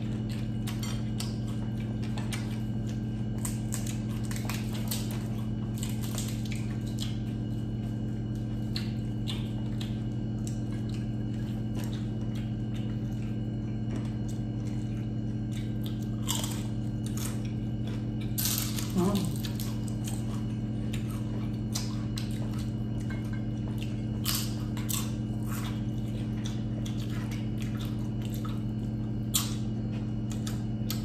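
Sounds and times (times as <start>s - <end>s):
chewing crispy fried skin: 0.0s - 31.0s
steady low hum: 0.0s - 31.0s.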